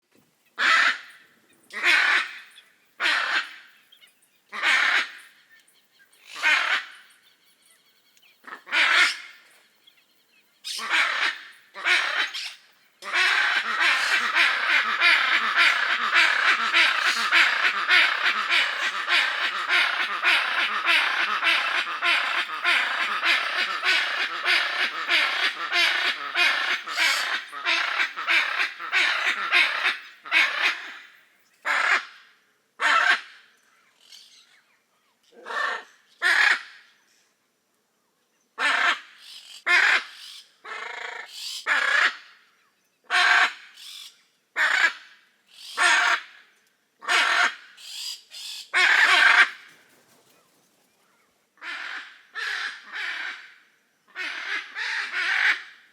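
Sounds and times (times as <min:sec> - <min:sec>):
macaws giving harsh calls: 0:00.6 - 0:03.8, 0:04.5 - 0:05.4, 0:06.2 - 0:07.1, 0:08.4 - 0:09.4, 0:10.6 - 0:34.5, 0:35.4 - 0:36.9, 0:38.6 - 0:42.4, 0:43.1 - 0:46.4, 0:47.0 - 0:50.8, 0:51.6 - 0:55.9.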